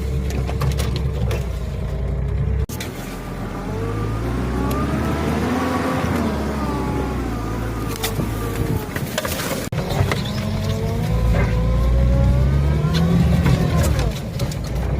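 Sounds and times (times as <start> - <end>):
off-road vehicle engine under load: 0.0 - 14.9.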